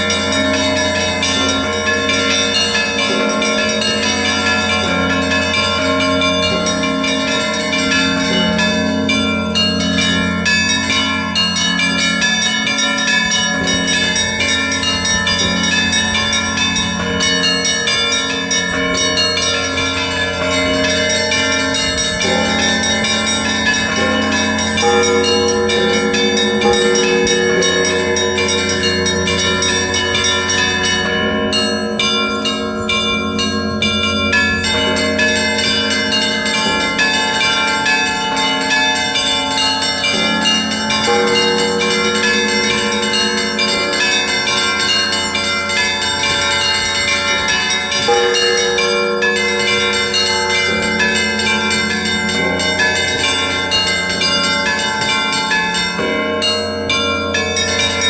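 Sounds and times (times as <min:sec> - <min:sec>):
large bells ringing: 0:00.0 - 0:58.0
small bells rapid strikes: 0:00.0 - 0:58.0.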